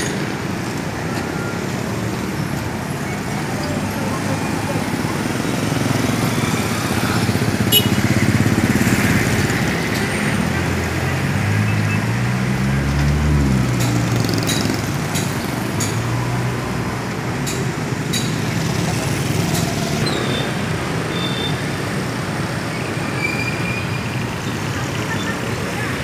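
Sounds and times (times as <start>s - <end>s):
car and motorcycle engines passing: 1.7s - 23.1s.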